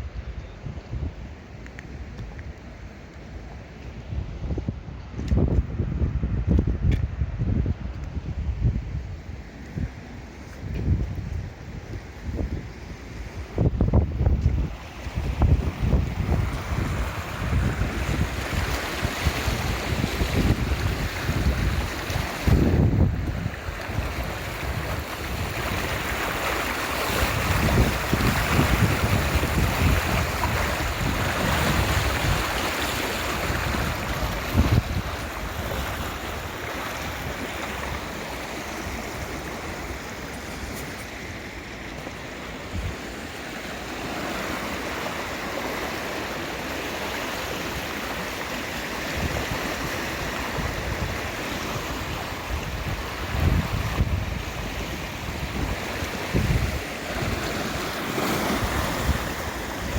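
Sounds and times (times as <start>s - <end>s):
wind buffeting microphone: 0.0s - 2.8s, 3.8s - 44.6s, 48.9s - 59.9s.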